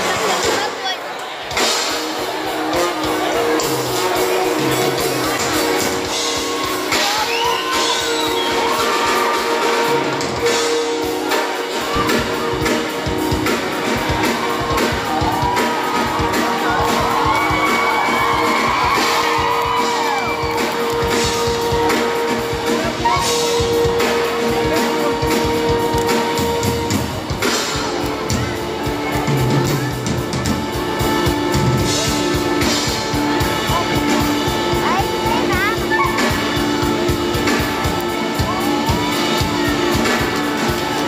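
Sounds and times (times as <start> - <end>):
circus music: 0.0 - 41.0.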